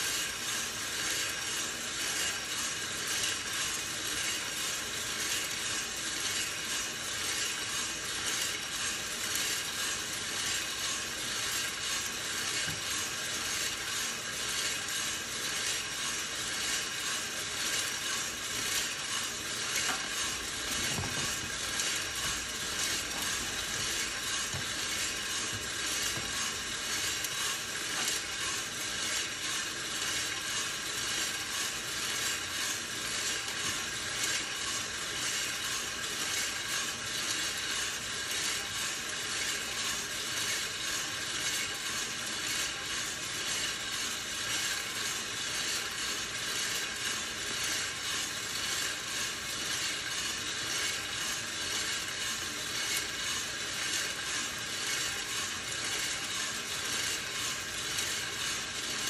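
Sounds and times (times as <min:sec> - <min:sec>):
coffee beans rattling in drum: 0:00.0 - 0:59.0
coffee roaster motor and fan whirring: 0:00.0 - 0:59.0.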